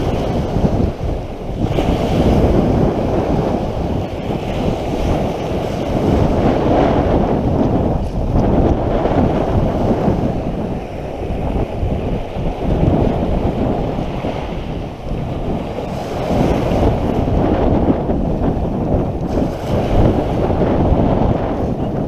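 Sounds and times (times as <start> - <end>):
waves washing on shingle beach: 0.0 - 22.0
wind buffeting microphone: 0.0 - 22.0.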